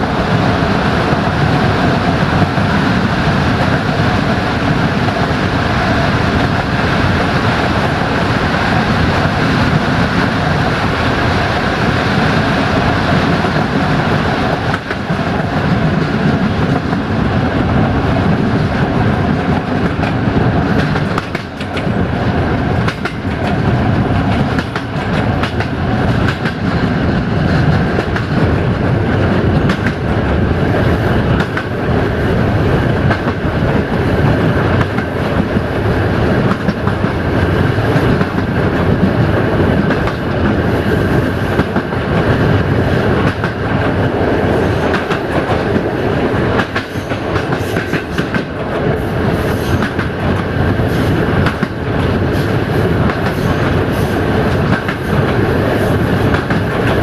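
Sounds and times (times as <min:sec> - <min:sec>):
train wheels rumbling on rail: 0:00.0 - 0:57.0
wheels clacking over rail joints: 0:00.0 - 0:57.0.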